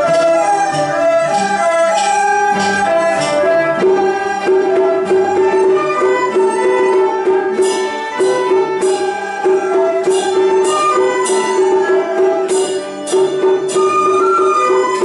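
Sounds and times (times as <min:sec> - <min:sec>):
bowed and plucked string ensemble: 0:00.0 - 0:15.0.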